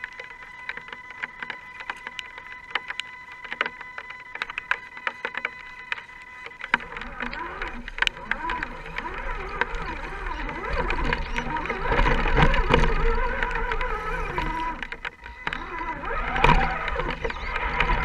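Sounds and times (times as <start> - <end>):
electric motor whining: 0.0 - 18.0
scattered ticks: 0.0 - 18.0.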